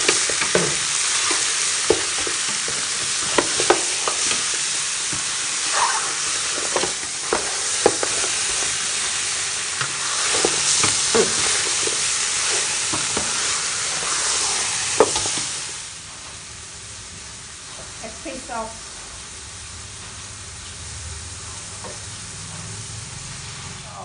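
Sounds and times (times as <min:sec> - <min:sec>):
bones sizzling in a pot: 0:00.0 - 0:24.0.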